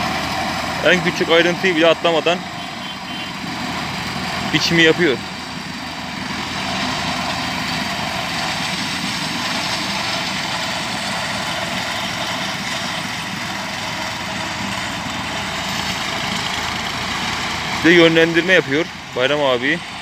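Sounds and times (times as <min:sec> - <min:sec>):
mowing machine engine hum: 0:00.0 - 0:20.0.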